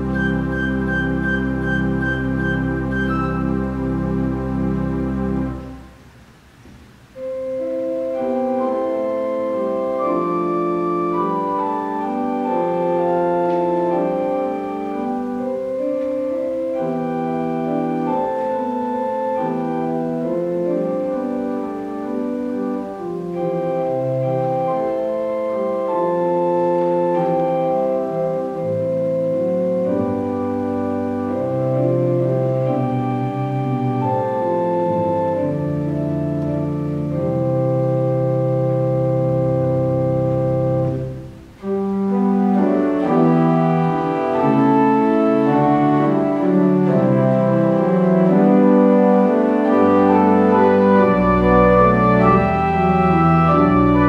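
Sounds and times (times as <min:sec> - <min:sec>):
church organ playing hymn: 0:00.0 - 0:06.1, 0:07.0 - 0:54.0.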